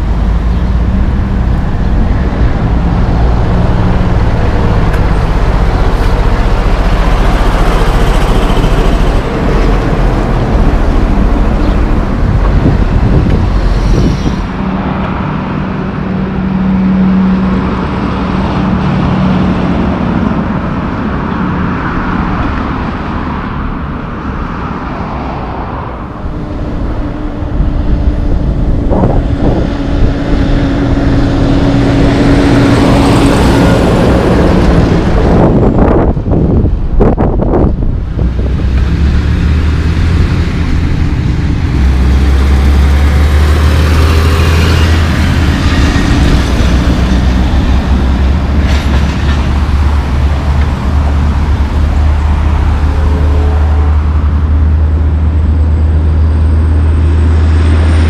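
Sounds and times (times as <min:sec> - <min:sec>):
higher truck engine drone: 0:00.0 - 0:58.0
truck diesel engine drone: 0:00.0 - 0:58.0.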